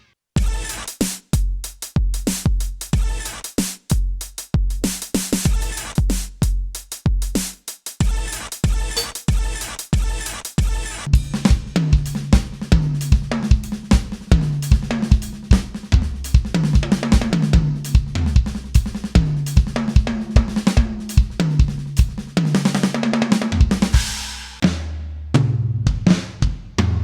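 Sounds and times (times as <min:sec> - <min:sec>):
electronic drum beat: 0:00.4 - 0:24.9, 0:25.8 - 0:27.0.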